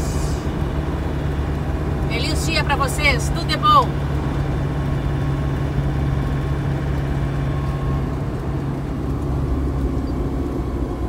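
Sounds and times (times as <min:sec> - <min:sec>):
constant low hum: 0:00.0 - 0:11.0
engine drone: 0:00.0 - 0:11.0
road noise: 0:00.0 - 0:11.0.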